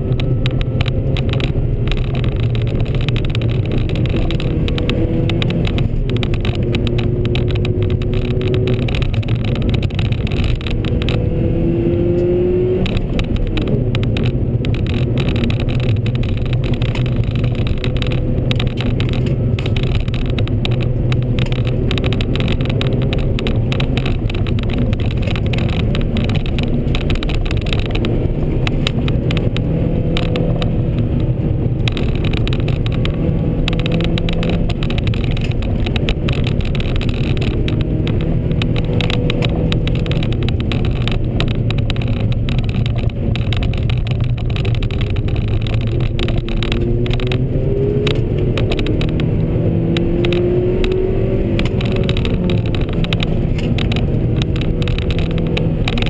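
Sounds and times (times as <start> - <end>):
car engine revving: 0.0 - 56.0
tyre and road noise: 0.0 - 56.0.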